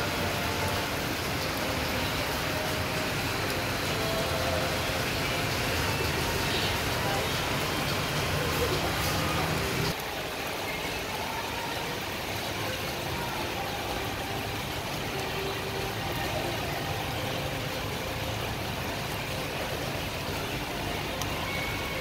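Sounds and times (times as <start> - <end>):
urban background noise: 0.0 - 22.0.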